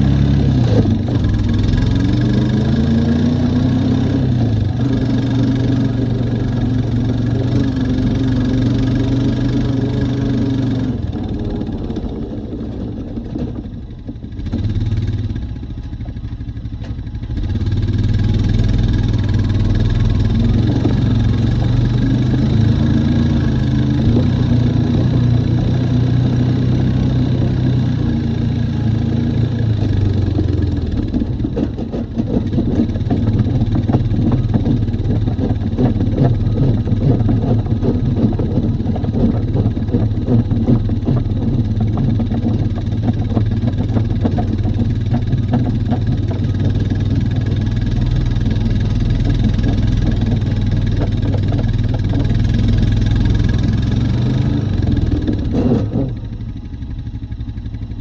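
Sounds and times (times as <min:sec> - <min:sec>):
atv engine running with clatter: 0:00.0 - 0:58.0.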